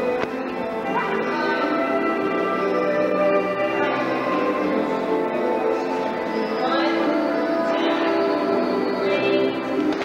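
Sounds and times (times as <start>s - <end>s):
music with held tones: 0.0s - 10.0s.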